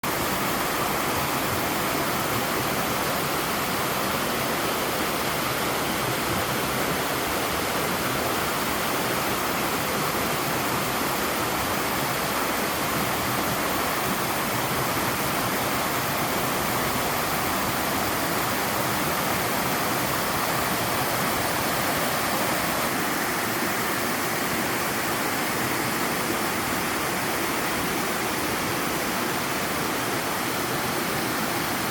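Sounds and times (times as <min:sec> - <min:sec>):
waterfall rushing over rock: 0:00.0 - 0:31.9.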